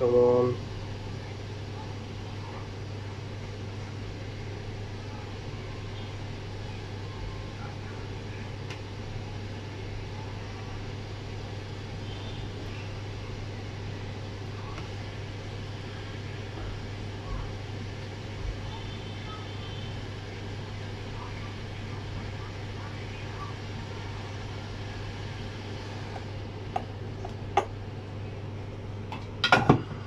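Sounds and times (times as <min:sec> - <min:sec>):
equipment humming: 0:00.0 - 0:30.0.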